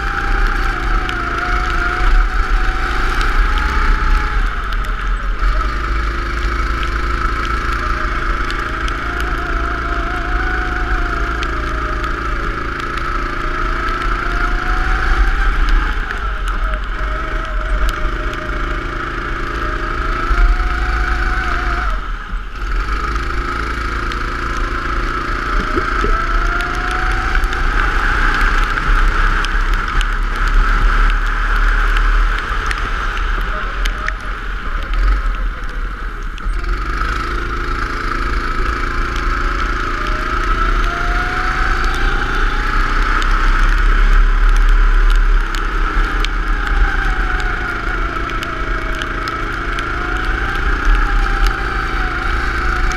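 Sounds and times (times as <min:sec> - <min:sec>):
go-kart engine accelerating: 0:00.0 - 0:52.9
wind rumble on microphone: 0:00.0 - 0:52.9.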